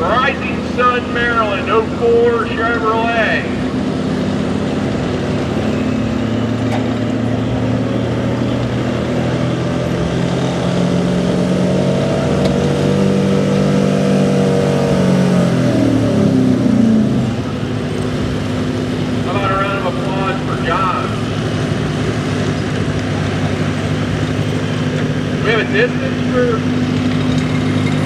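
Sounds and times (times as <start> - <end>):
truck engine at high revs: 0.0 - 28.0.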